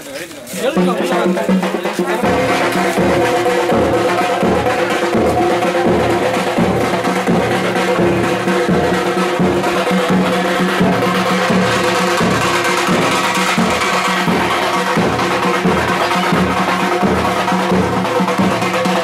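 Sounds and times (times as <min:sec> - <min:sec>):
street drummers beating: 0:00.0 - 0:19.0.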